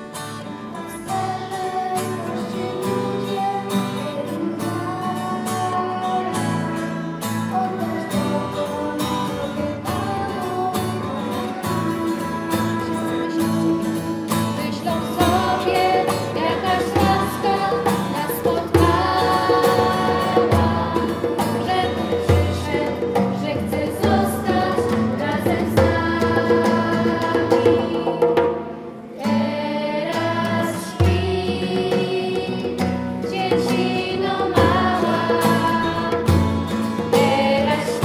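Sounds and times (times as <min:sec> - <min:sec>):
acoustic guitars strumming: 0:00.0 - 0:38.0
girls' choir singing in unison: 0:00.7 - 0:38.0.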